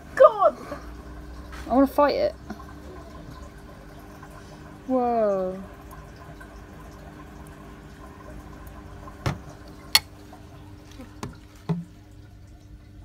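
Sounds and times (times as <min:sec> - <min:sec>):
faint water trickle: 0:00.0 - 0:13.0
steady background hum: 0:00.0 - 0:13.0.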